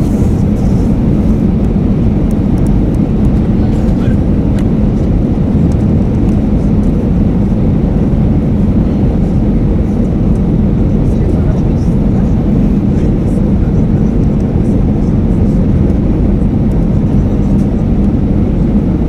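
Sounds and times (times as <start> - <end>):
airflow rush and engine rumble: 0.0 - 19.0
low hum: 0.0 - 19.0.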